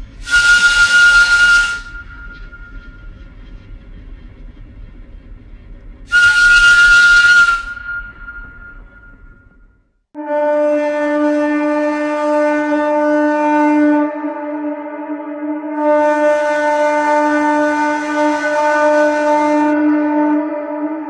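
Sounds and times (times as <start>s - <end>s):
train horn blowing: 0.0s - 3.2s, 6.1s - 9.6s, 10.2s - 21.0s.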